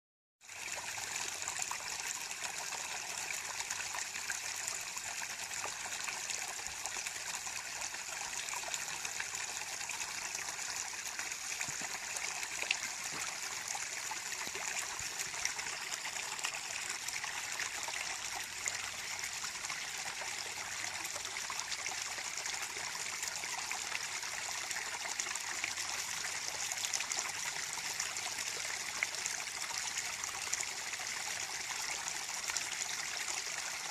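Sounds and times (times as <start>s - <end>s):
stream trickling over stones: 0.4s - 33.9s.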